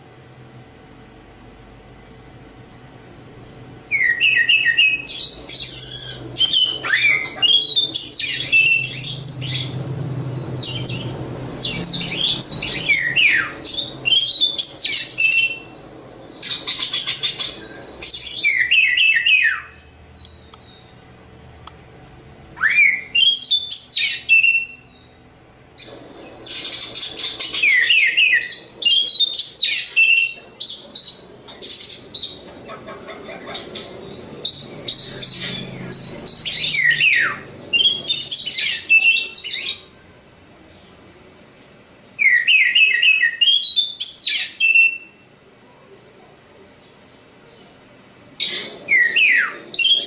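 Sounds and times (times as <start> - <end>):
bird singing chirps and whistles: 2.4 - 21.0, 22.6 - 32.4, 33.6 - 45.2, 46.9 - 50.0.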